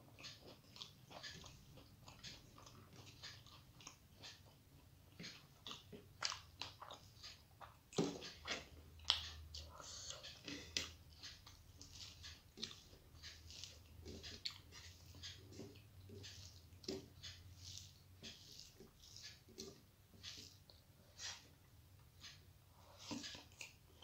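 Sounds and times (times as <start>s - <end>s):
wet chewing clicks: 0.0s - 21.6s, 22.2s - 24.0s
fingers squishing rice: 0.0s - 24.0s.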